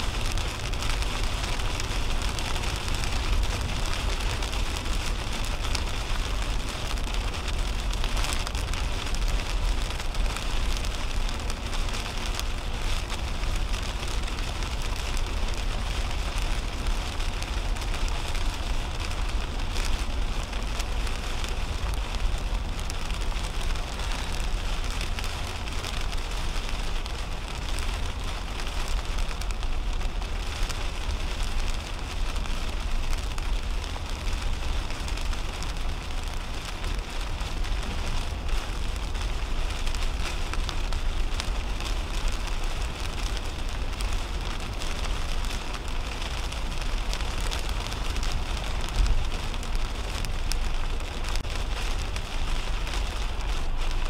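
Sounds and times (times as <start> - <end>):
deep road rumble: 0.0 - 54.0
heavy rain on car windshield: 0.0 - 54.0
tyre noise on wet pavement: 0.0 - 54.0.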